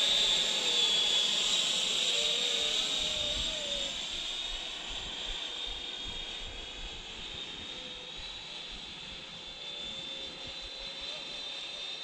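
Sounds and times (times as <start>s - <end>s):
model jet fans whining: 0.0s - 12.0s.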